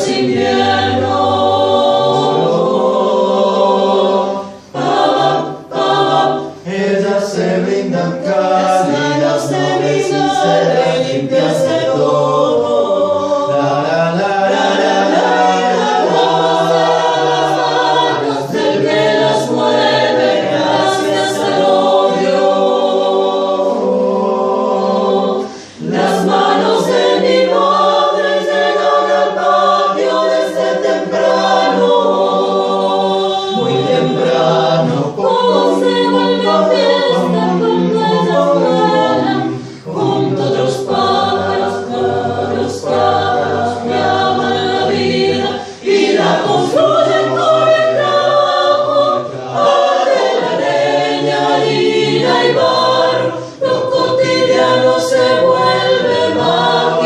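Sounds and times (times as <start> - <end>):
chamber choir singing a cappella: 0.0 - 57.0.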